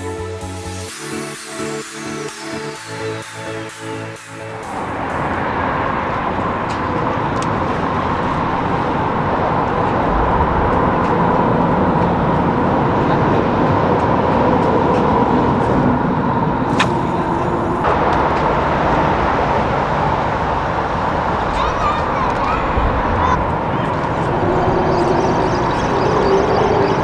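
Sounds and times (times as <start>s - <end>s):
road traffic on bridge: 0.0s - 27.0s.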